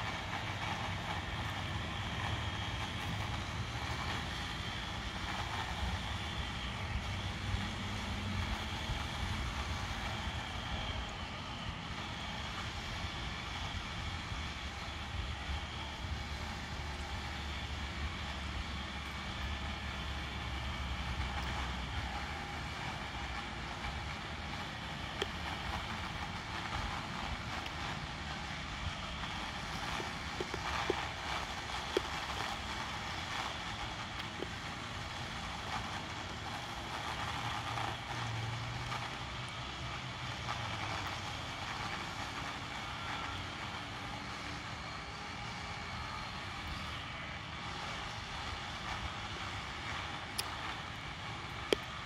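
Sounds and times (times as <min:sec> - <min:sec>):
distant chainsaw running: 0:00.0 - 0:52.0.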